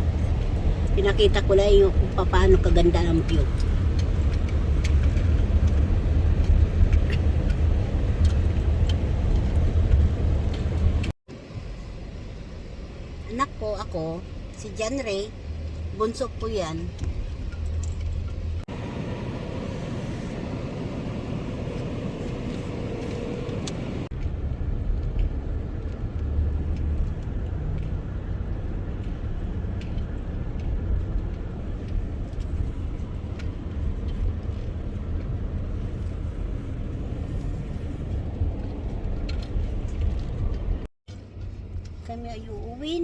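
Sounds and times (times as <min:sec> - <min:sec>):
car driving with road rumble: 0:00.0 - 0:43.0.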